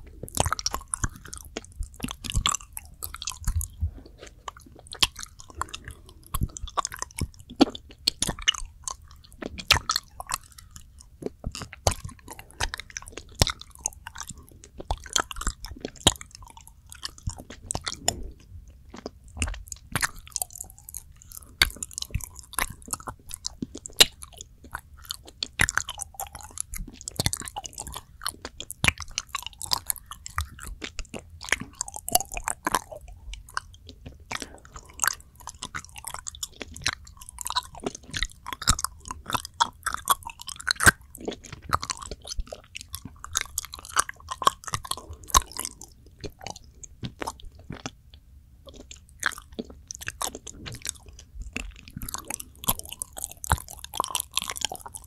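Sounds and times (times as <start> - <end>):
chewing with wet mouth clicks: 0.0 - 55.0.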